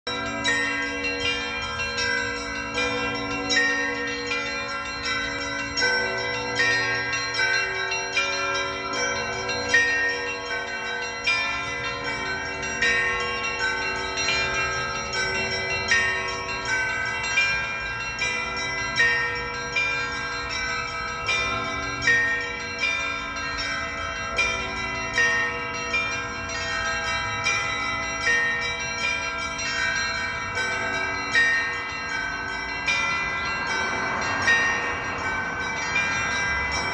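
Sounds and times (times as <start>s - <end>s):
small church bells ringing: 0.0s - 36.9s.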